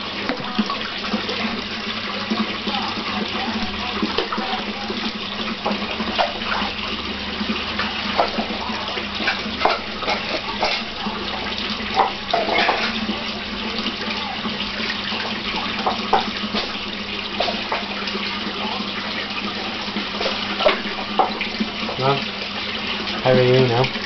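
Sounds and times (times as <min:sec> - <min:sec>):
water running in pond: 0:00.0 - 0:24.0
fish splashing at surface: 0:02.2 - 0:23.2.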